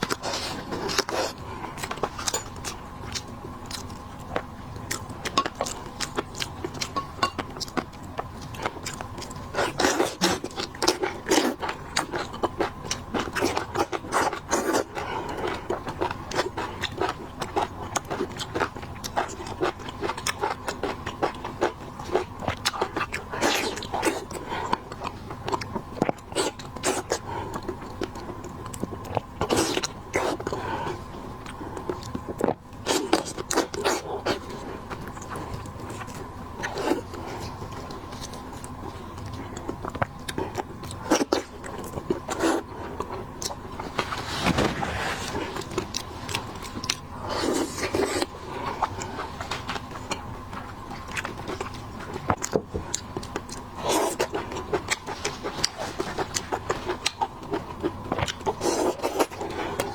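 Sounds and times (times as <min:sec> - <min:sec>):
chewing seafood: 0:00.0 - 0:59.9
faint steady hum: 0:00.0 - 0:59.9.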